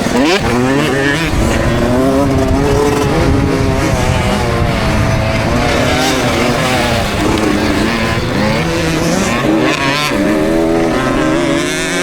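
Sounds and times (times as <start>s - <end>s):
wind rush on helmet: 0.0s - 11.5s
two-stroke dirt bike engine revving: 0.0s - 12.0s.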